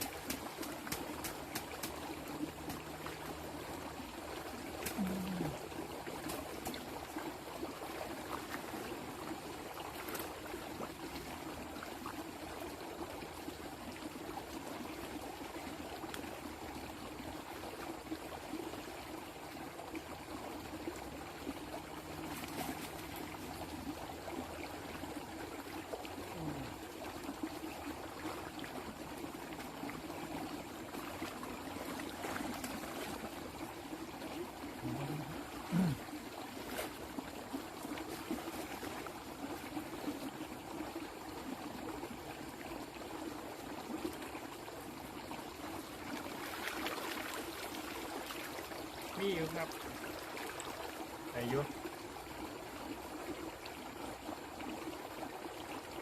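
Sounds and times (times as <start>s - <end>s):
water flowing in a stream: 0.0s - 56.0s.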